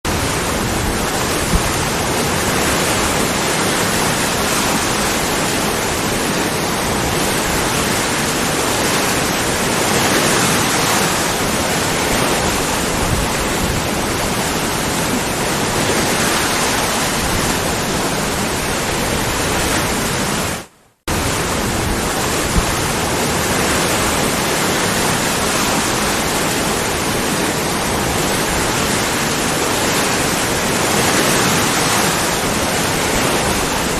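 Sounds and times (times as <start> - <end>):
waterfall pouring and splashing: 0.1 - 33.9.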